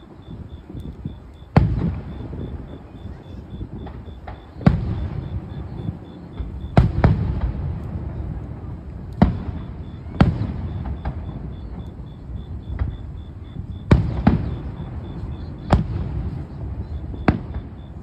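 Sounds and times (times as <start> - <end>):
faint fireworks pops: 0.0 - 18.0
fireworks bangs: 0.0 - 18.0.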